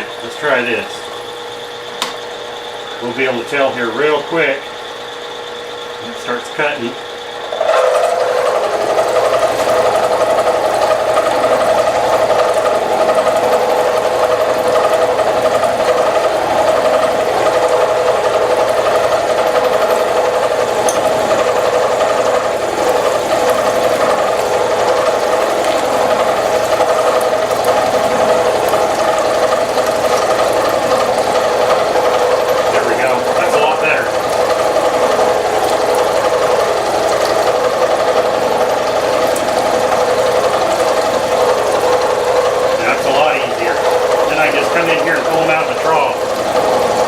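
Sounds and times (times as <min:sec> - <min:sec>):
milling machine cutting metal: 0:00.0 - 0:47.0.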